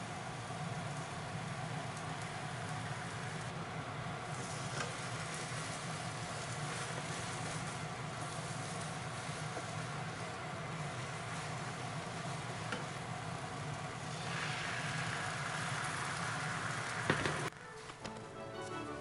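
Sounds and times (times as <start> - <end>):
egg sizzling in a pan: 0.0 - 17.8.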